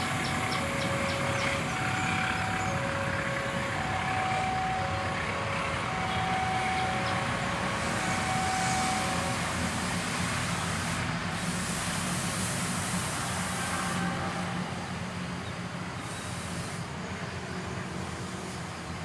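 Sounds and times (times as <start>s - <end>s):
vehicle mechanical hum and rumble: 0.0s - 19.0s.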